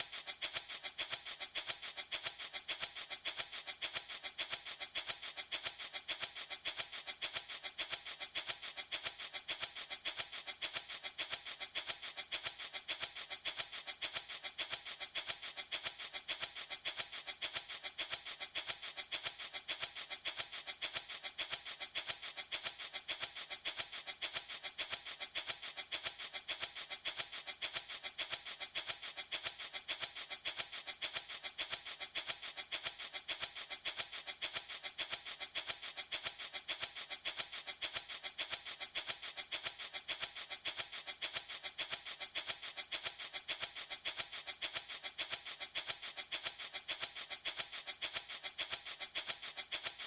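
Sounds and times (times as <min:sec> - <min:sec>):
baby rattle shaken: 0:00.0 - 0:50.0.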